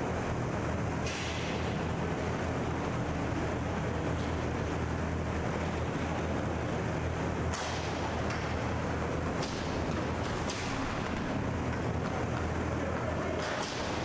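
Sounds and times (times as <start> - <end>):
arena noise rumble: 0.0 - 14.0.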